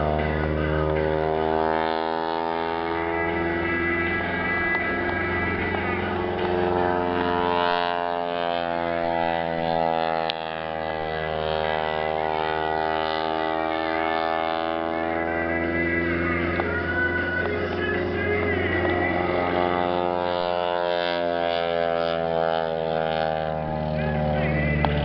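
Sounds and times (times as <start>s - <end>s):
plane piston engine running: 0.0s - 25.0s
steady low hum: 0.0s - 25.0s.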